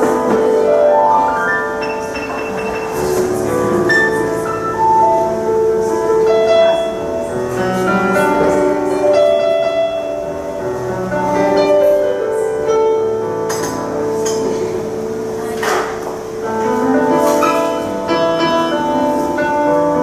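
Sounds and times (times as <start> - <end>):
grand piano solo: 0.0 - 20.0.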